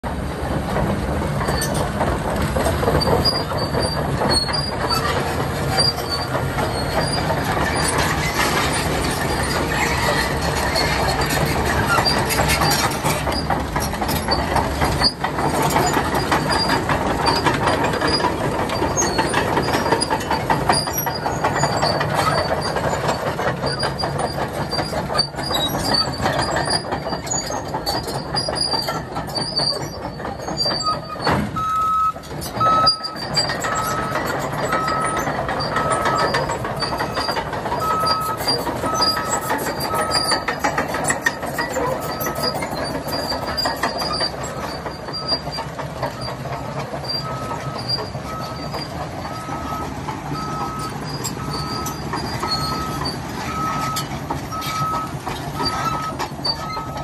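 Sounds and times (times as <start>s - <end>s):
diesel engine running: 0.0s - 57.0s
steel tracks clanking and squealing: 0.0s - 57.0s.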